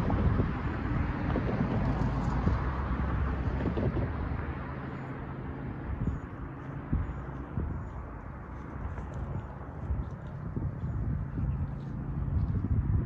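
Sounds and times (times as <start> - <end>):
cars tyre and engine noise: 0.0 - 13.0.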